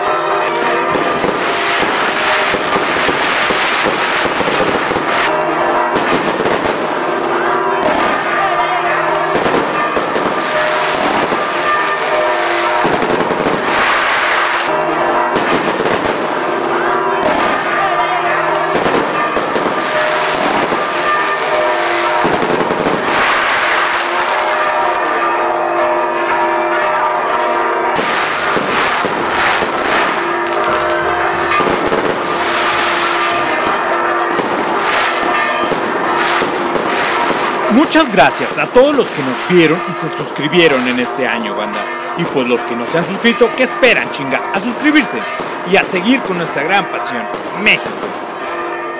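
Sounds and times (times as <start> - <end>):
fireworks bursting and crackling: 0.0 - 7.2, 7.8 - 8.4, 9.3 - 17.8, 18.5 - 25.2, 27.9 - 41.3, 42.2 - 48.4.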